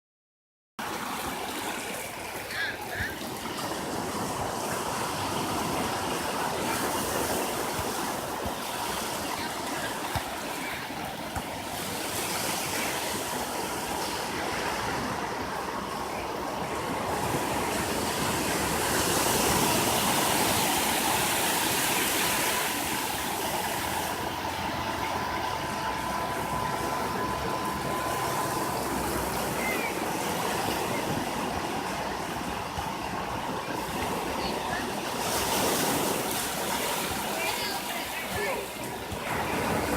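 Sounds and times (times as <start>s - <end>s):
surf waves breaking: 0.8s - 39.9s.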